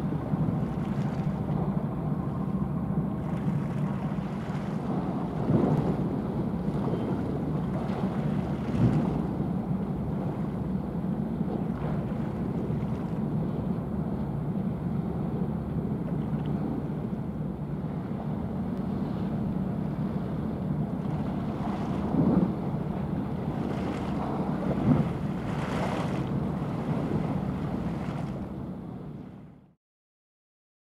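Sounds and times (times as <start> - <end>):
wind buffeting microphone: 0.0 - 29.4
ship engine drone: 0.0 - 29.7.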